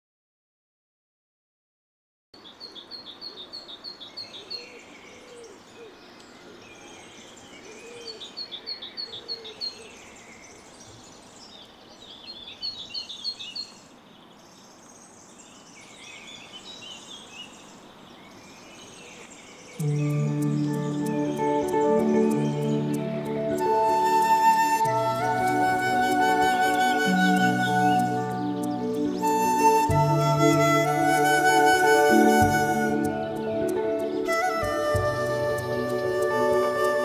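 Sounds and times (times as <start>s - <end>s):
birds singing and calling: 2.4s - 37.0s
steady background hiss: 2.4s - 37.0s.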